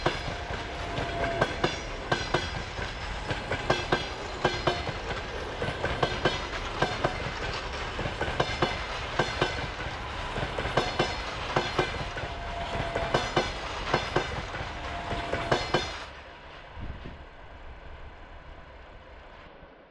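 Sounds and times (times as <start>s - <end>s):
train wheels clicking over rail joints: 0.0s - 16.2s
distant train rumble: 0.0s - 19.9s.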